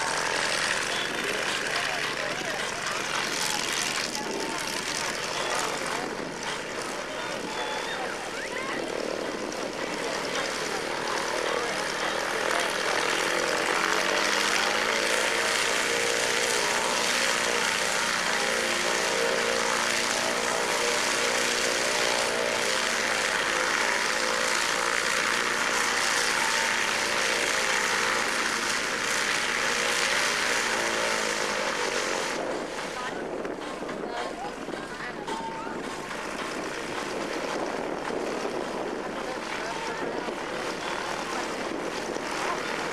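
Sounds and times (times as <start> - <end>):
propeller aircraft engine: 0.0 - 42.9.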